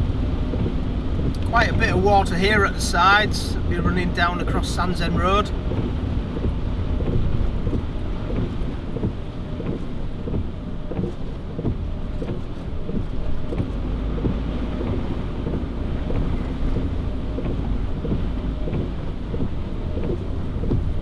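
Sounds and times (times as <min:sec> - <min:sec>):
car driving on wet road: 0:00.0 - 0:21.0.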